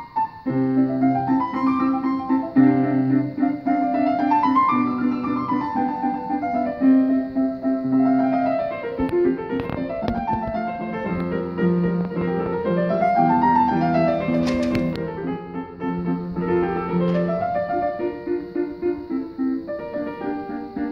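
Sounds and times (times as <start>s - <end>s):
two pianos playing a duet: 0.0s - 20.9s.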